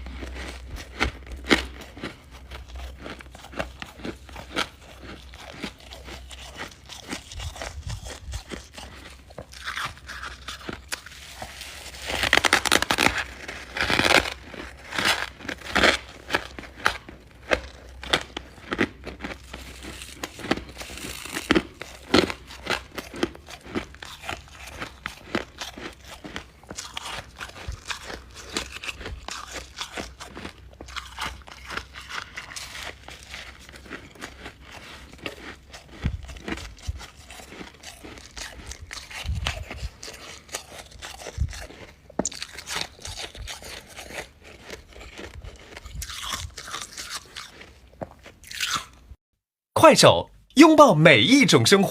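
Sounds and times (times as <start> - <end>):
crunching and chewing ice: 0.0 - 49.2.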